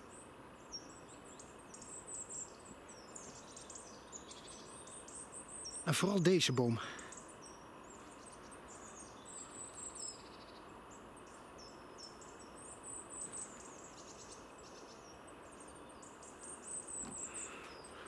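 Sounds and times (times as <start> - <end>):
soft background hiss: 0.0 - 18.0
songbirds chirping: 0.0 - 18.0.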